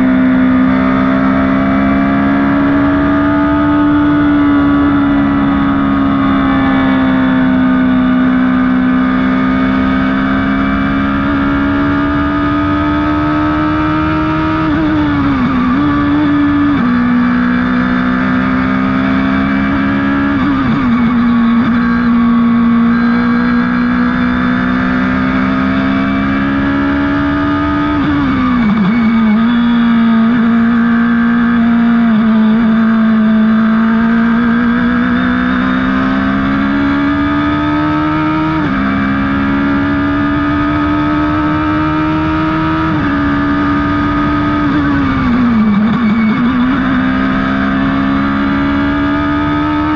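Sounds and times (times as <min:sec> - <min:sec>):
race car engine at high revs: 0:00.0 - 0:49.9.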